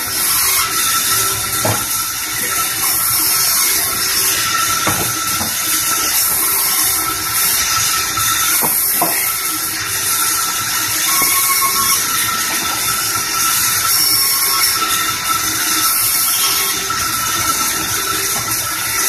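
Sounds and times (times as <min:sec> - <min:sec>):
band saw cutting wood: 0:00.0 - 0:19.0.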